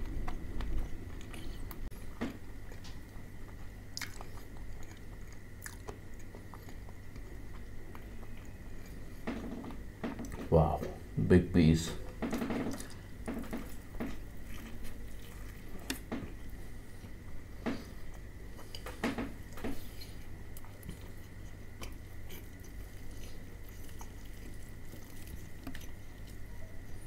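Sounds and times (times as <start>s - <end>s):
crunchy chewing: 0.0s - 10.5s, 12.2s - 27.0s.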